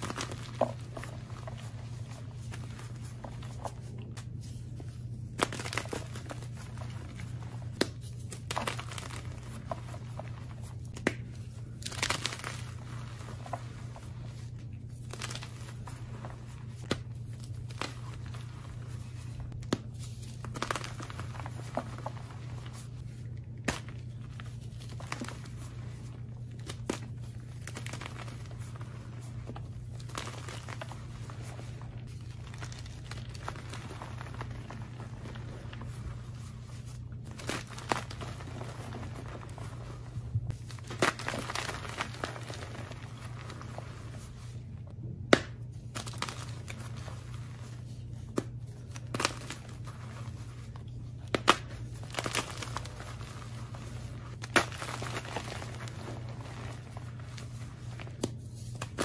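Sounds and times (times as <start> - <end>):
hands crushing chalk blocks: 0.0 - 4.6, 5.3 - 44.5, 45.3 - 59.0
steady low hum: 0.0 - 59.0.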